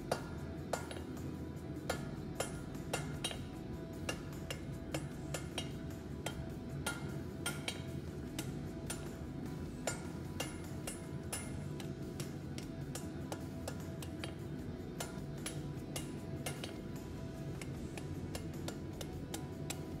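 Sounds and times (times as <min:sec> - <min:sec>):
hammer striking steel on anvil: 0:00.0 - 0:01.2, 0:01.8 - 0:20.0
background music: 0:00.0 - 0:20.0.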